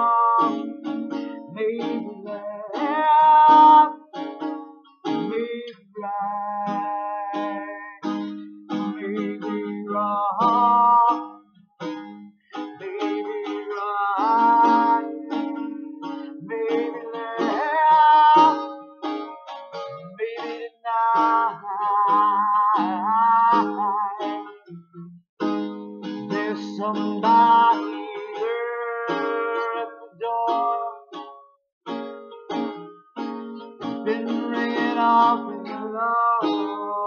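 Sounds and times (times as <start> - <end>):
acoustic guitar: 0.0 - 37.0.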